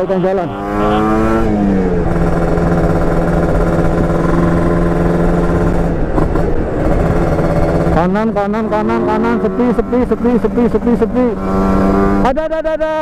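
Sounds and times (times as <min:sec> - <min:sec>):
two-stroke motorcycle engine revving: 0:00.0 - 0:12.4.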